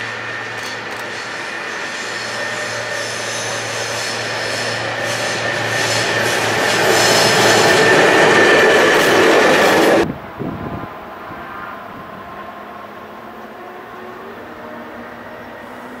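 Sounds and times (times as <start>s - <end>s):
rumble of train wheels: 0.0s - 16.0s
steady high locomotive tone: 0.0s - 16.0s.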